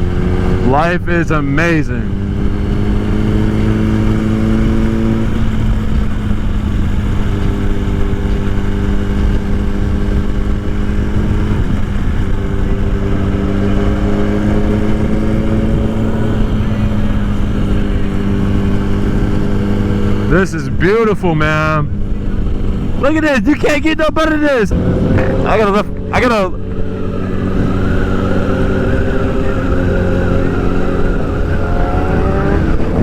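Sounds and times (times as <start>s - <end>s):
motorcycle engine cruising: 0.0s - 33.0s
wind rumble on microphone: 0.0s - 33.0s.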